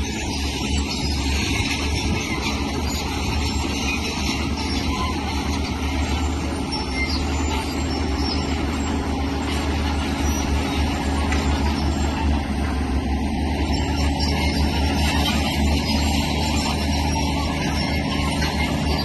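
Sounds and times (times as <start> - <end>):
heavy diesel machinery engine rumble: 0.0 - 19.0.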